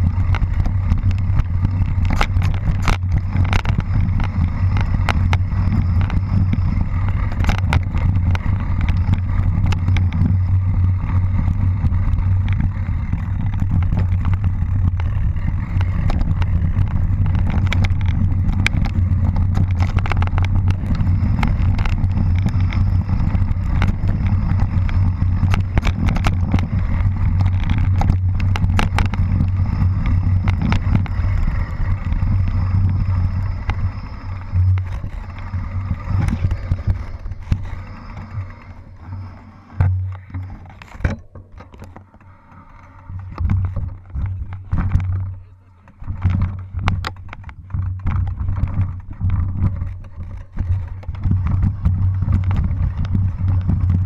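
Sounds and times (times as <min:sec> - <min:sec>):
wind buffeting microphone: 0:00.0 - 0:41.8, 0:43.1 - 0:54.0
bike rattles and knocks: 0:00.0 - 0:54.0.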